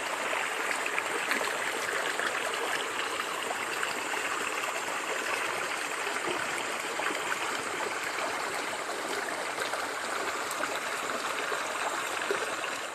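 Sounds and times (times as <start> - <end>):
small water splashes: 0.0 - 12.9.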